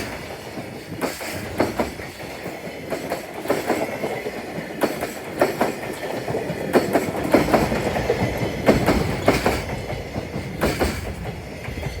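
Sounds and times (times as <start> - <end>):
freight train wheels knocking: 0.0 - 12.0.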